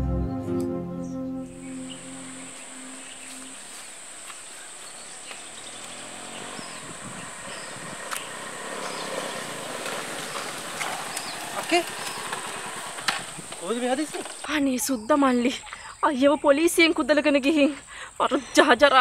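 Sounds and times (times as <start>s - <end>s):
rural background noise: 1.0s - 19.0s
insects droning: 1.4s - 19.0s.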